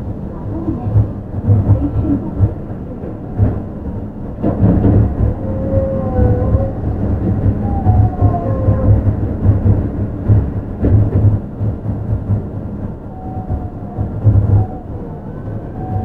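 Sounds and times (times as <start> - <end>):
monorail tyres rumbling: 0.0 - 16.0.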